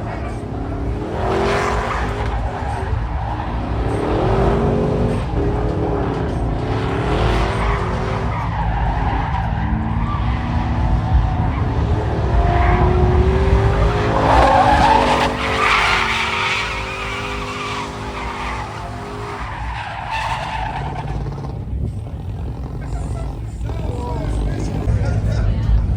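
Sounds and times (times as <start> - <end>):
car tires squealing: 0.0 - 24.9
engine rumble: 0.0 - 25.9.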